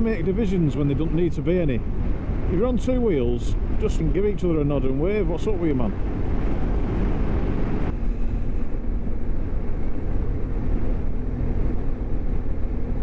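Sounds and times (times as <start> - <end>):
motorcycle engine noise: 0.0 - 13.0
wind rushing: 0.0 - 13.0.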